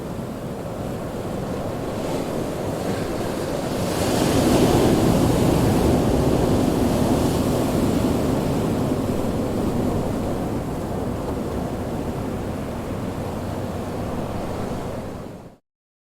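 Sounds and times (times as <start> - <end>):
ocean waves breaking: 0.0 - 15.5
low surf: 0.0 - 15.6.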